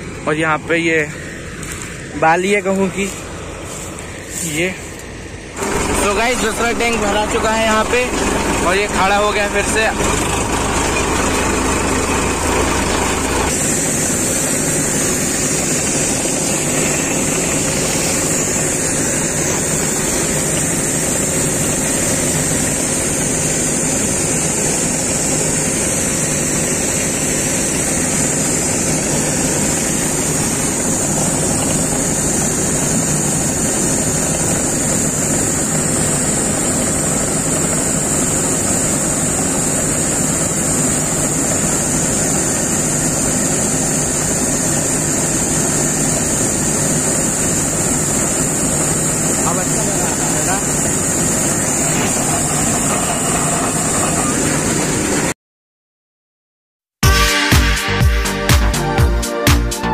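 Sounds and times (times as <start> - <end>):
combine harvester drone: 0.0 - 55.4
grain pouring hiss: 0.9 - 54.8.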